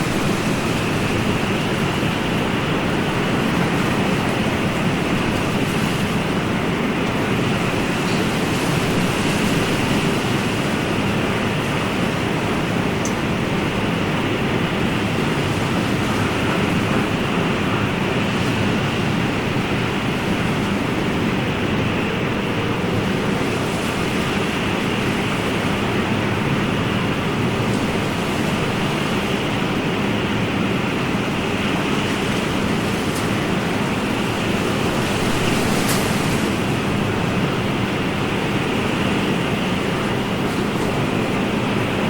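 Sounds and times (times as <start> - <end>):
ocean waves washing: 0.0 - 42.0.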